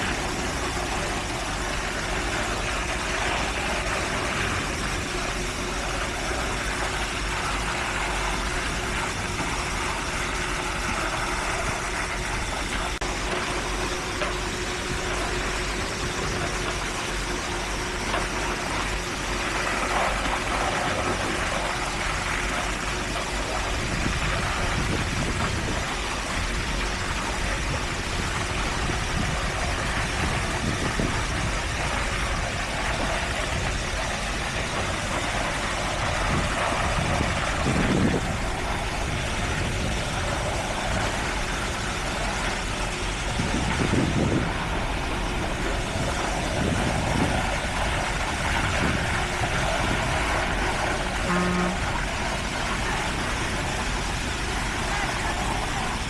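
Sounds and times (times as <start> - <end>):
heavy machinery engines running: 0.0 - 56.0.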